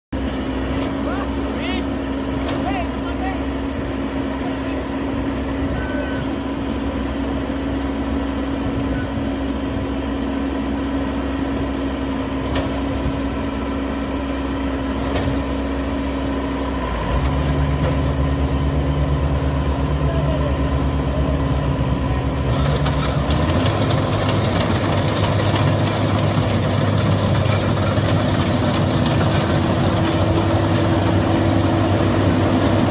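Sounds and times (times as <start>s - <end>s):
harvester engine running: 0.2s - 32.9s.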